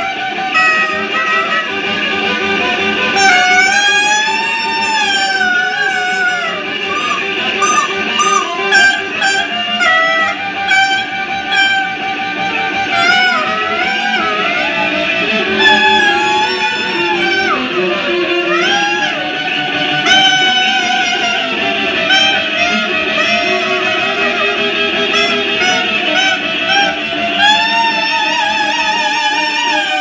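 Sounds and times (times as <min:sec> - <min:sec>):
fiddle playing: 0:00.0 - 0:30.0
harmonica playing: 0:00.0 - 0:30.0.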